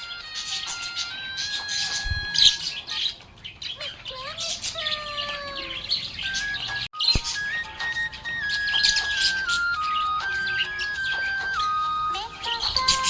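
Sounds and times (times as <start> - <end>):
budgerigar chirping and warbling: 0.0 - 13.0.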